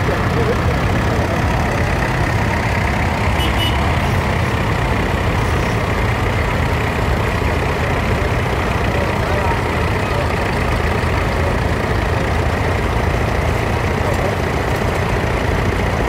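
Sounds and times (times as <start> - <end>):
tractor engines driving past: 0.0 - 16.0.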